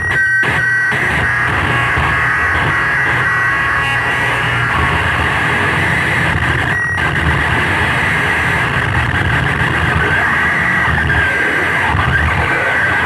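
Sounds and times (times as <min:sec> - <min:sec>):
harsh hissing electronic noise: 0:00.0 - 0:13.0
low electronic rumble: 0:01.1 - 0:12.5.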